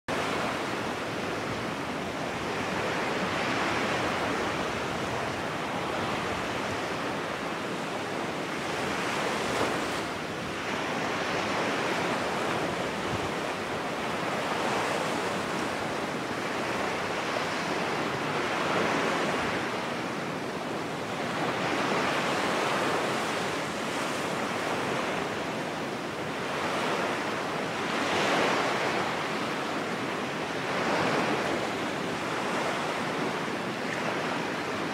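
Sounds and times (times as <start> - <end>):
rushing surf-like noise: 0.1 - 34.9.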